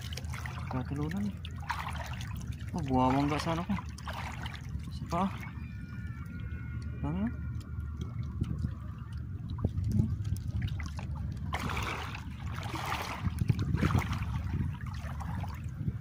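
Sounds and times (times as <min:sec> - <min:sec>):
low steady rumble: 0:00.0 - 0:16.0
water sloshing from wading: 0:00.0 - 0:16.0.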